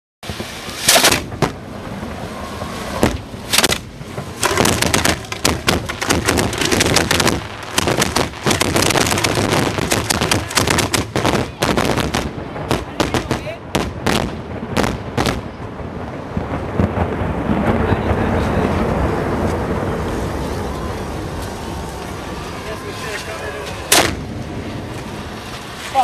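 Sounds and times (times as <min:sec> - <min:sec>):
fireworks bangs and crackles: 0:00.2 - 0:26.0.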